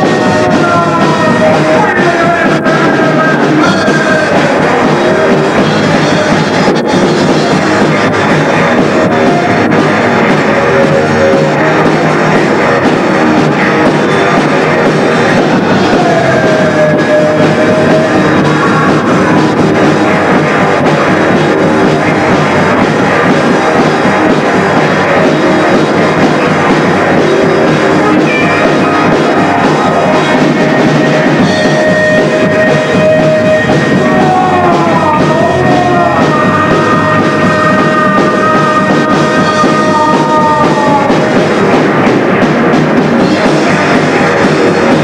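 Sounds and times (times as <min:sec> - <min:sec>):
bending high guitar notes: 0:00.0 - 0:45.0
distorted electric guitars: 0:00.0 - 0:45.0
drum kit: 0:00.0 - 0:45.0.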